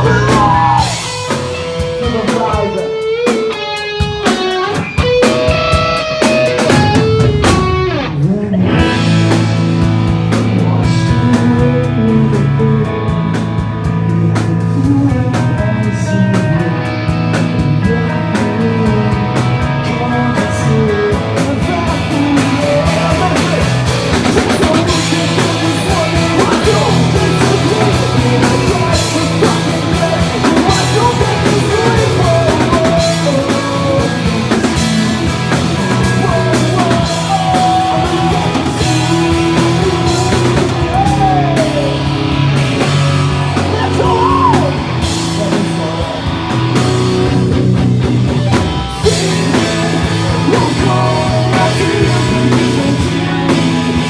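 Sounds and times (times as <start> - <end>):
person singing: 0.0 - 5.8, 10.5 - 42.3, 42.9 - 46.6, 49.0 - 54.0
drums: 0.0 - 54.0
electric guitars: 0.0 - 54.0.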